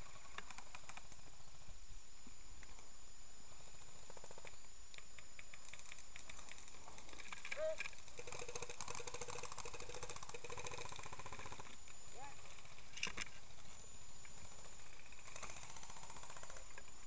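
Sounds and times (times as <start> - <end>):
rapid clicks: 0.0 - 1.7, 3.5 - 13.6, 14.2 - 17.0
faint high whine: 0.0 - 17.0.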